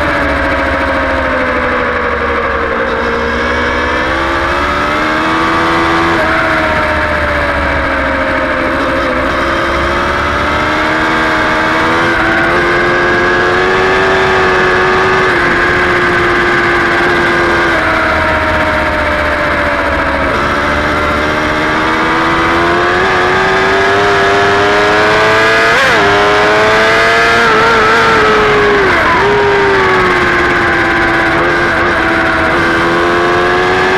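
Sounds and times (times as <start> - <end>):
motorcycle engine at racing speed: 0.0 - 33.9.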